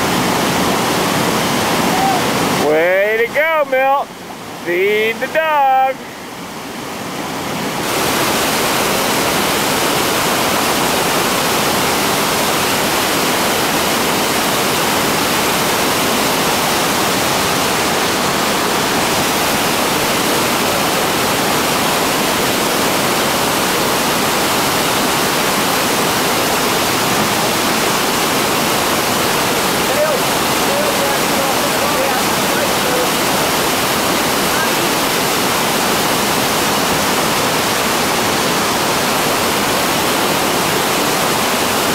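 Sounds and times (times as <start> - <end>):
whitewater rapid roaring: 0.0 - 41.9.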